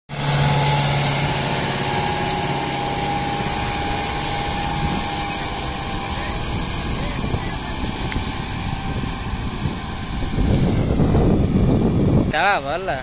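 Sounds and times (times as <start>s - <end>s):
tractor diesel engine droning: 0.1s - 13.0s.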